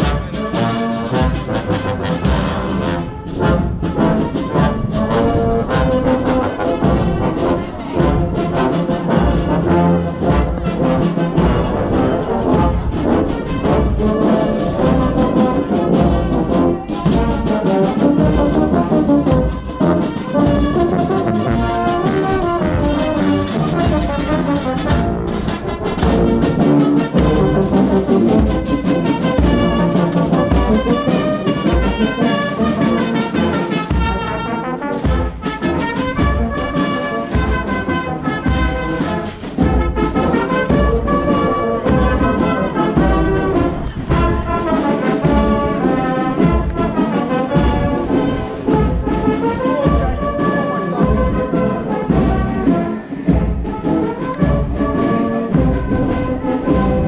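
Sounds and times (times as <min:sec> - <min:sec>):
drum steady beat: 0:00.0 - 0:57.0
marching brass band playing: 0:00.0 - 0:57.0.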